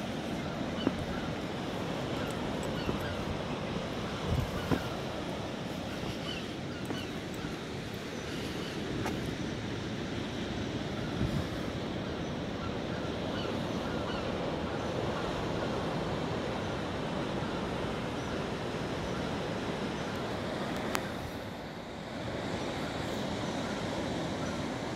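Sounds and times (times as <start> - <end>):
wind: 0.0 - 24.9.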